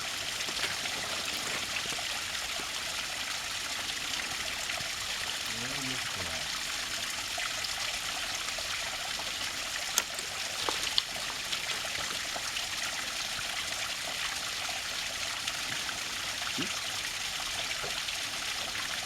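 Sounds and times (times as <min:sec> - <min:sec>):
small waterfall splashing: 0:00.0 - 0:19.0.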